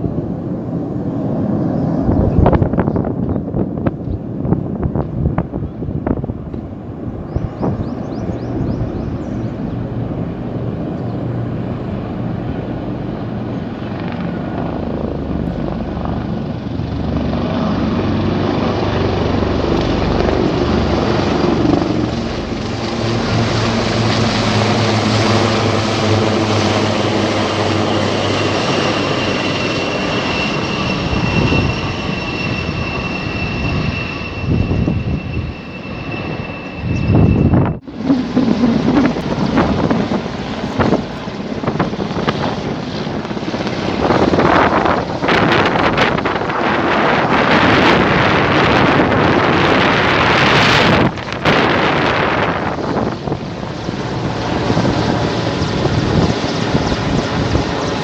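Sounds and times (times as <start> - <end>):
helicopter rotor and turbine engine: 0.0 - 58.0
high turbine whine: 0.0 - 58.0.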